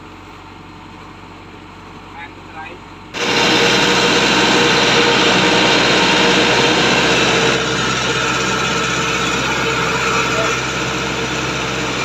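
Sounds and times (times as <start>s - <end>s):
harvester engine drone: 0.1s - 12.0s.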